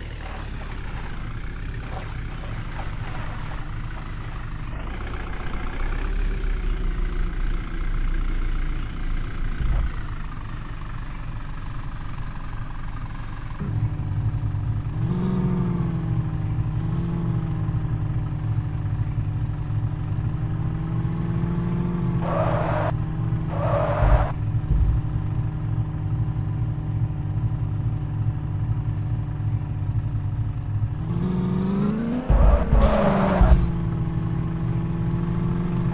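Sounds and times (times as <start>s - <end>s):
vehicle engine running: 0.0s - 35.9s.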